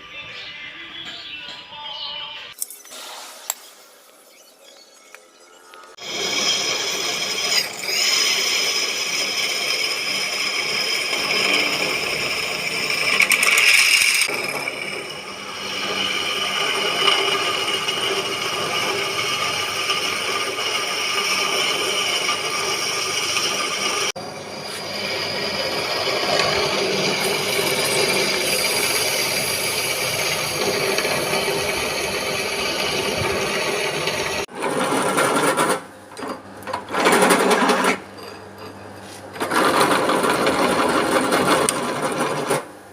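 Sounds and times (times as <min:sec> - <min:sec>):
metalworking machinery running: 0:05.8 - 0:42.7.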